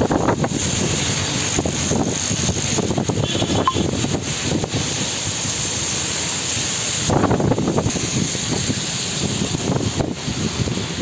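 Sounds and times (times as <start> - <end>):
wind buffeting microphone: 0.0 - 5.3, 7.0 - 11.0
heavy rain pouring: 0.0 - 11.0.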